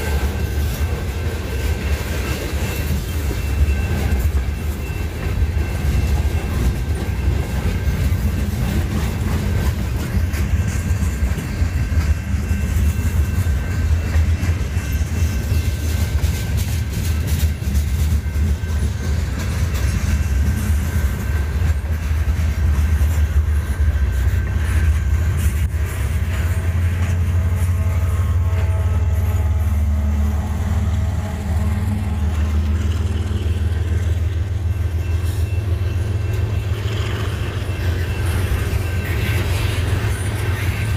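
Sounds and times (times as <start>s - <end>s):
freight train rolling past: 0.0s - 40.9s
wheels clacking over rail joints: 0.0s - 40.9s.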